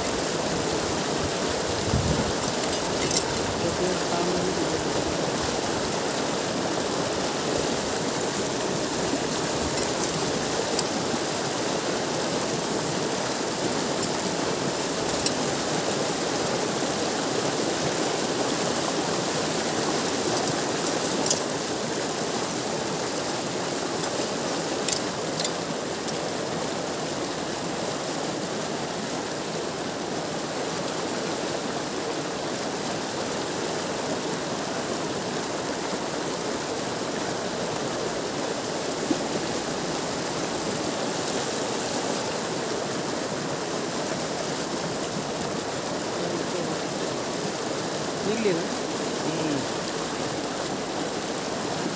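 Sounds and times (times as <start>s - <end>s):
water gushing over stones: 0.0s - 51.9s.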